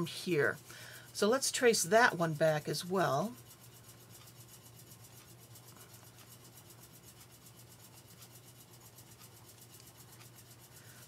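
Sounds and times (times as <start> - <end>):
stylus rubbing on a tablet: 0.0 - 11.0.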